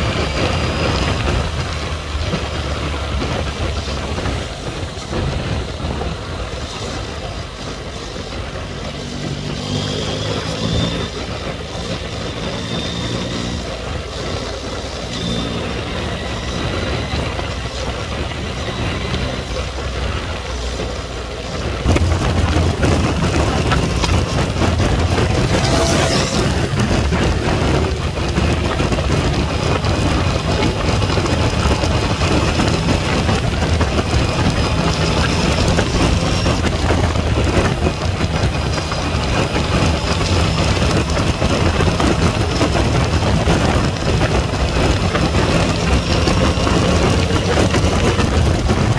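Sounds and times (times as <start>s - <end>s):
motorcycle engine running: 0.0s - 48.9s
wind and road noise: 0.0s - 48.9s.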